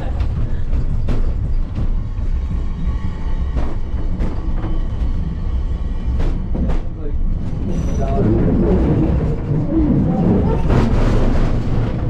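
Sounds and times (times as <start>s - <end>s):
low rumble of funicular car: 0.0s - 12.0s.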